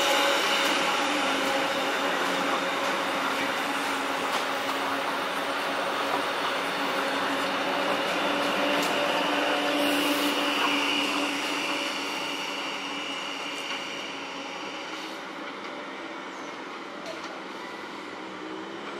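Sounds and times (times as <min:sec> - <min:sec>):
electric tram passing: 0:00.0 - 0:18.9.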